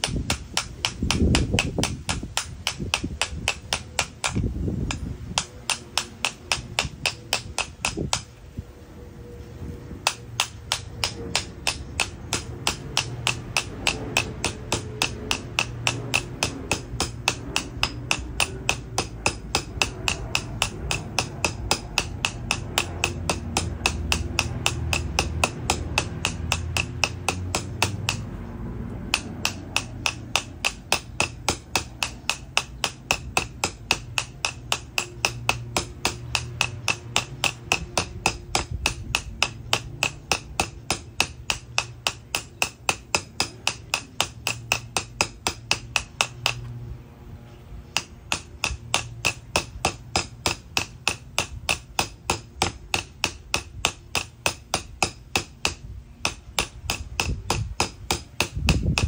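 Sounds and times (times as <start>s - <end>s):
hammer tapping on metal: 0.0s - 8.4s, 10.0s - 46.8s, 47.8s - 59.0s.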